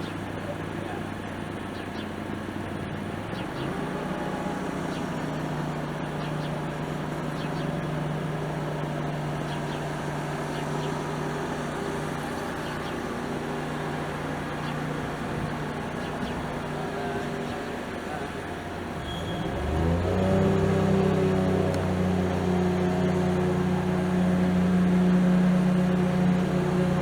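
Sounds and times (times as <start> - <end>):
motor humming: 0.0 - 27.0.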